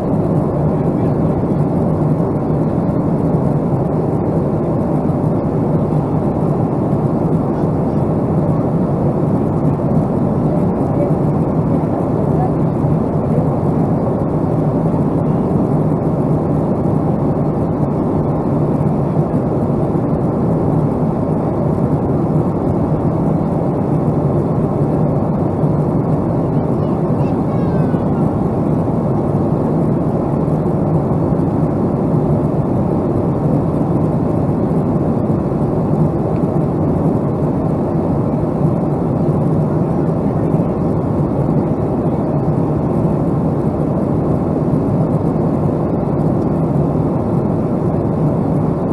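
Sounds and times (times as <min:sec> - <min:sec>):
jet engine roar in cabin: 0:00.0 - 0:48.9.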